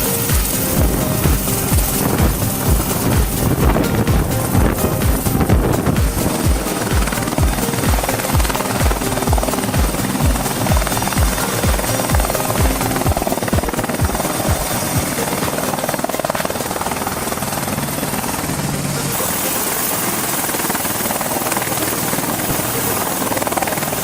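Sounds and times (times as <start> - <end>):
helicopter rotor thudding: 0.0 - 24.0
turbine hum: 0.0 - 24.0.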